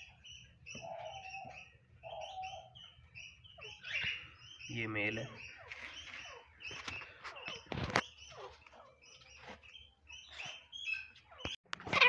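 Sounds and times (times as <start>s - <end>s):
francolin chirping calls: 0.0s - 11.6s.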